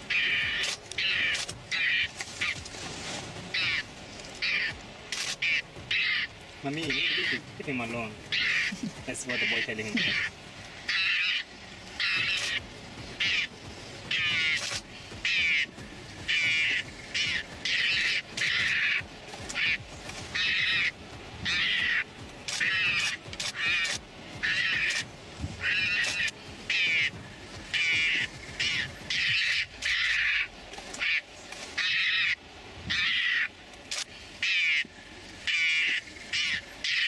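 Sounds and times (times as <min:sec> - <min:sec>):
bird calling: 0:00.0 - 0:37.0.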